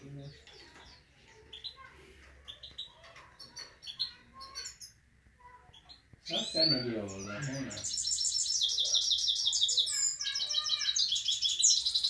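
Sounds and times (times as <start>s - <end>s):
finch chirping: 0.0s - 12.0s.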